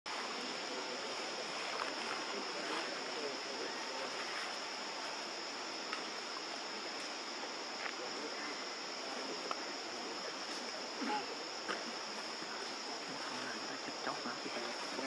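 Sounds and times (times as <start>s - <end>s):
forest background hiss: 0.1s - 15.0s
insects droning: 0.1s - 15.0s.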